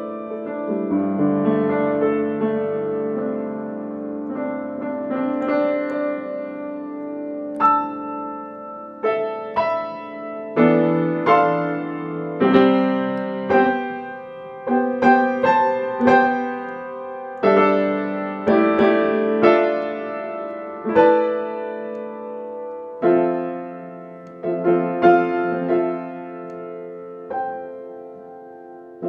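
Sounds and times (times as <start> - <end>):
piano playing slow chords: 0.0 - 29.0.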